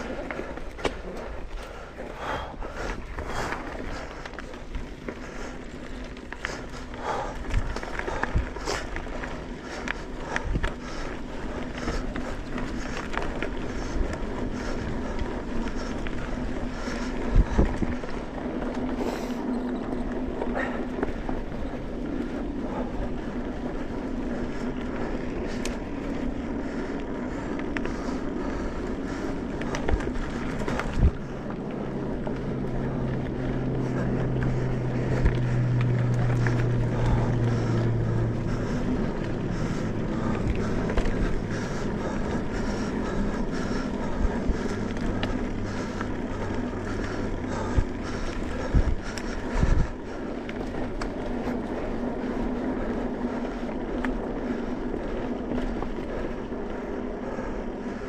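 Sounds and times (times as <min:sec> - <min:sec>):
off-road vehicle engine: 0:00.0 - 0:58.0
wind buffeting microphone: 0:00.0 - 0:58.0.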